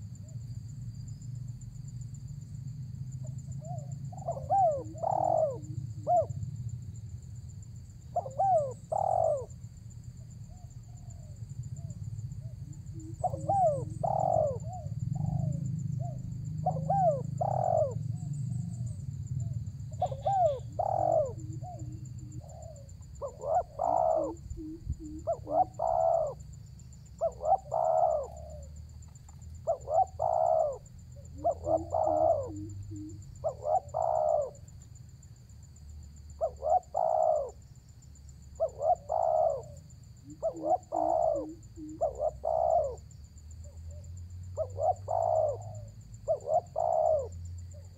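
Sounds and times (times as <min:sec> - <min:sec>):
dove cooing: 0:03.2 - 0:06.5, 0:08.0 - 0:34.7, 0:36.4 - 0:37.6, 0:38.5 - 0:47.9.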